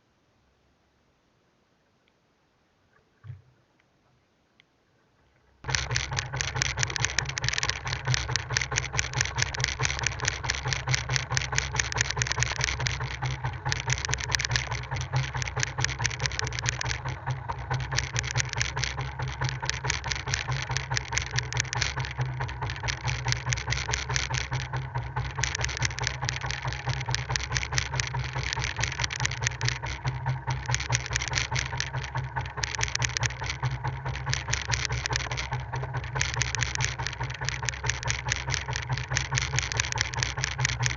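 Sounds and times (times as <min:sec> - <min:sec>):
boat engine pulsing: 0:05.5 - 0:40.9.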